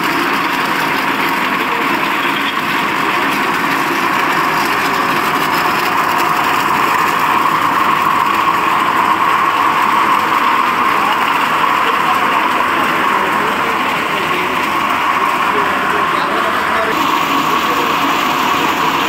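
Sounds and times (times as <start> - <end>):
husk-peeling machine churning: 0.0 - 19.0.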